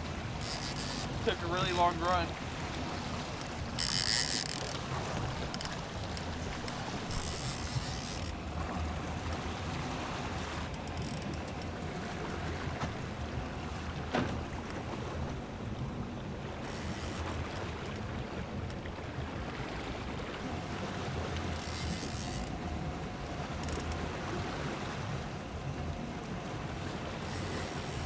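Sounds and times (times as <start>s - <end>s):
boat engine running: 0.0s - 28.0s
wind and water noise: 0.0s - 28.0s.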